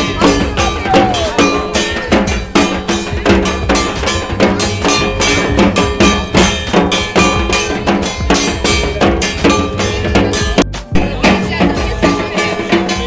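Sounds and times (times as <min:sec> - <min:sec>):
music with fast drum beat: 0:00.0 - 0:13.0.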